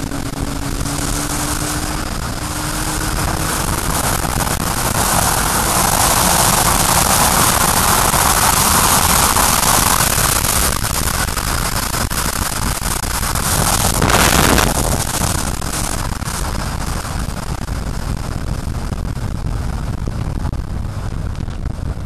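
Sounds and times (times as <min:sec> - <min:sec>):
vehicle road noise: 0:00.0 - 0:22.0
wind rushing over microphone: 0:00.0 - 0:22.0.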